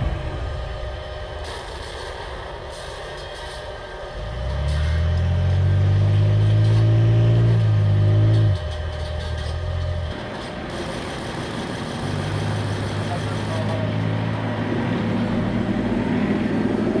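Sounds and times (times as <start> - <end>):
simulated engine hum: 0.0 - 17.0.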